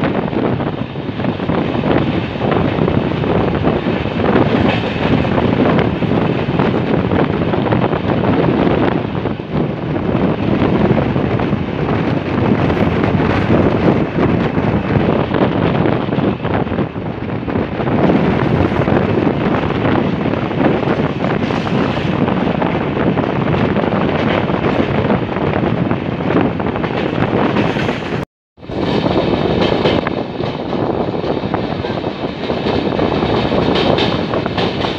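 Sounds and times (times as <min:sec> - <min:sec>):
train wheels clattering on track: 0:00.0 - 0:34.9
wind buffeting microphone: 0:00.0 - 0:34.9.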